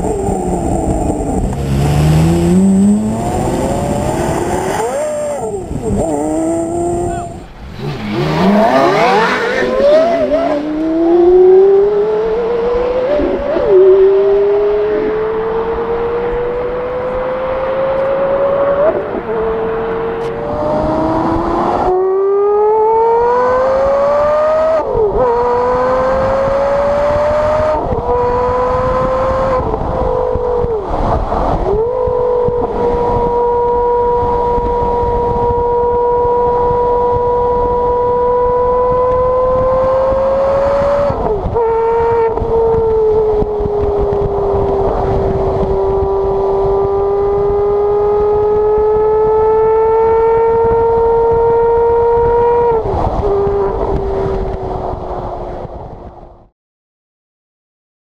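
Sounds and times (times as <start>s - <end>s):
sports car engine accelerating: 0.0s - 55.8s.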